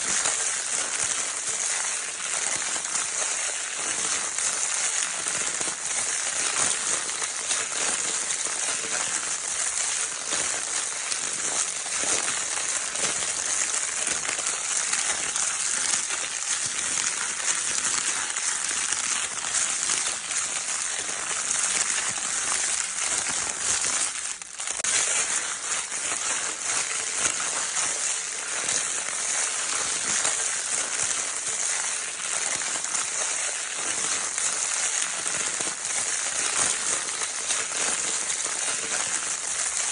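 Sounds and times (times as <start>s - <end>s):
crinkle paper toy crackling: 0.0s - 39.9s.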